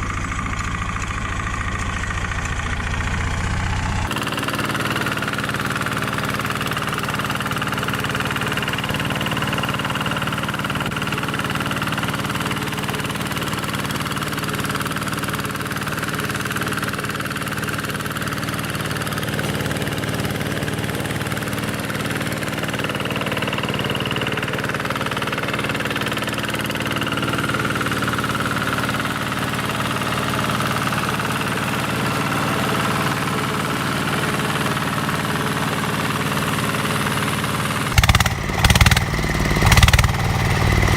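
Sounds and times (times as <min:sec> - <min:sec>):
small tractor engine running: 0:00.0 - 0:40.9.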